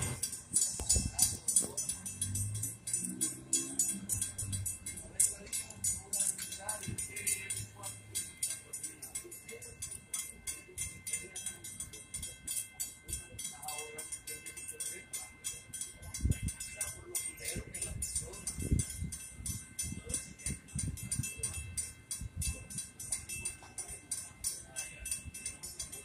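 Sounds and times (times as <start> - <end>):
crossing warning bell ringing: 0.0 - 26.0.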